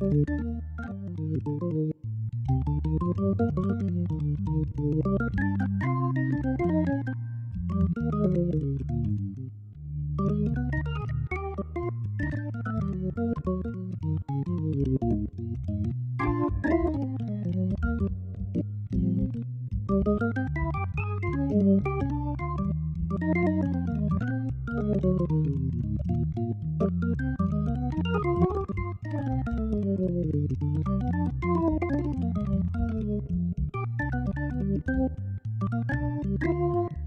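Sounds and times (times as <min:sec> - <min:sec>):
organ playing jazz runs: 0:00.0 - 0:02.0, 0:02.6 - 0:09.4, 0:10.2 - 0:37.0
low bass line: 0:00.0 - 0:37.0.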